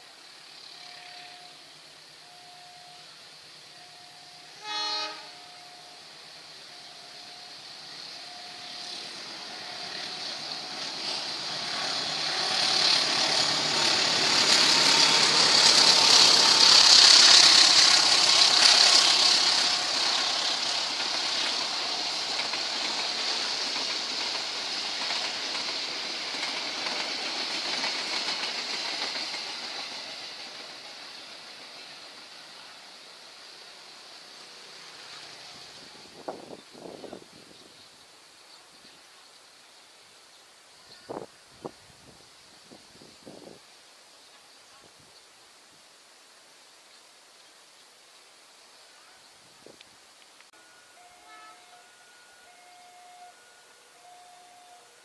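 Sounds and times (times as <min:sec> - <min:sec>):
diesel train passing: 0:00.0 - 0:40.8, 0:50.5 - 0:55.0.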